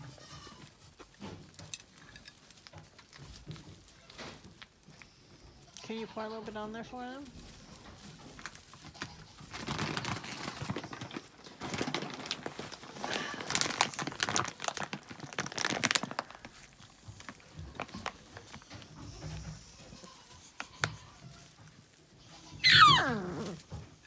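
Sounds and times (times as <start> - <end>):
rustling in straw: 2.4 - 24.0.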